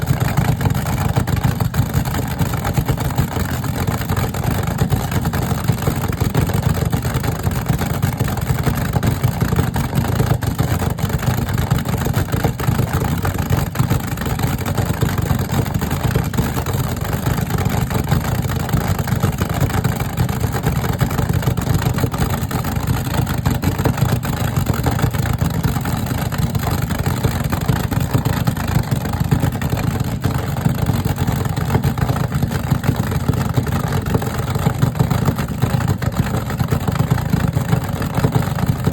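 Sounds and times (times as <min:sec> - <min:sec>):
car engines running: 0:00.0 - 0:38.9.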